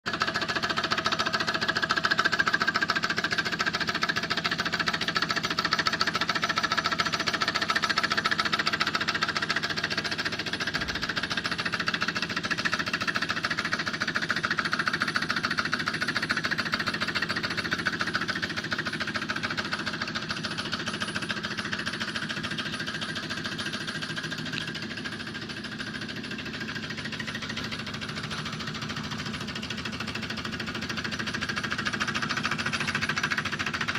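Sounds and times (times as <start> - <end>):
stirling engine clattering: 0.1 - 33.9.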